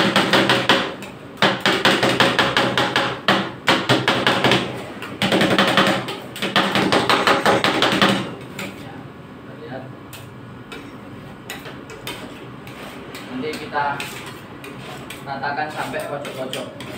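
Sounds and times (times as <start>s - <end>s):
metal spatulas chopping and scraping: 0.0s - 8.8s, 10.7s - 16.9s.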